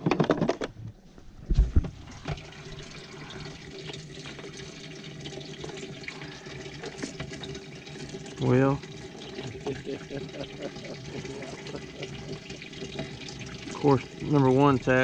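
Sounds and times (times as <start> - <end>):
water running and splashing: 1.7 - 15.0
pump humming: 1.8 - 15.0.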